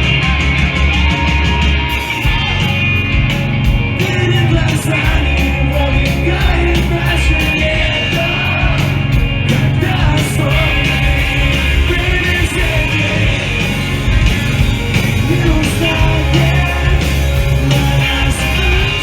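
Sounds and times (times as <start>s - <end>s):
bass guitar: 0.0s - 19.0s
distorted guitars: 0.0s - 19.0s
drums: 0.0s - 19.0s
yelled and sung vocals: 0.0s - 19.0s.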